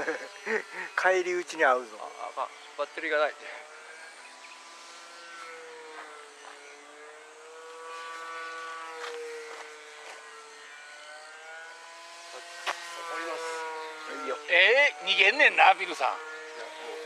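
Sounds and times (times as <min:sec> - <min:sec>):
model airplane buzzing whine: 0:00.0 - 0:17.0.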